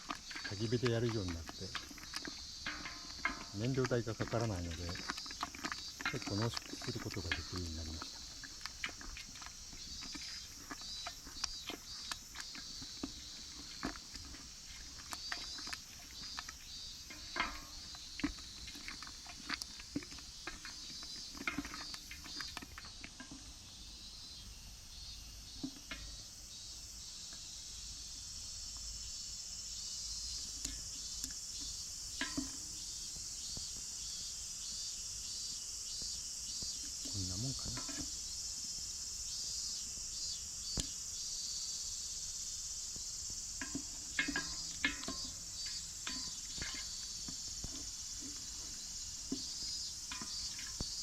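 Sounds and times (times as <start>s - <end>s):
thick puree popping in a pot: 0.0s - 27.6s, 29.8s - 41.2s, 42.9s - 51.0s
insects chirring: 0.0s - 51.0s.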